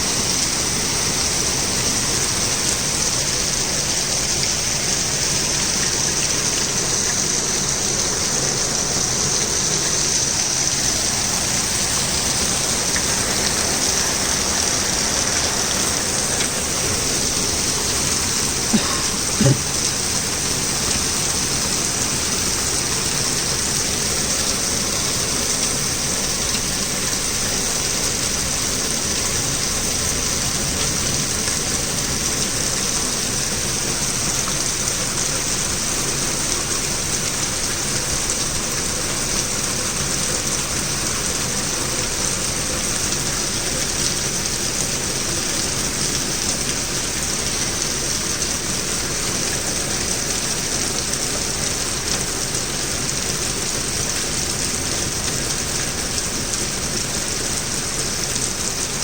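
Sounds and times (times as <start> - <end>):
torrential rain: 0.0 - 59.0.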